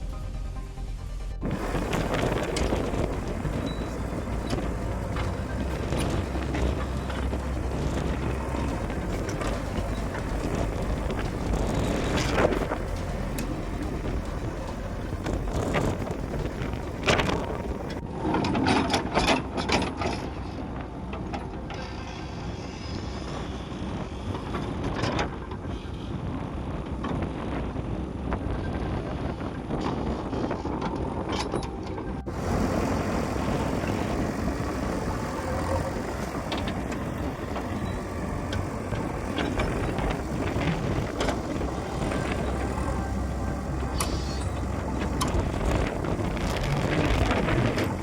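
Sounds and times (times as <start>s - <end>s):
diesel engine running: 0.0s - 22.4s, 31.7s - 48.0s.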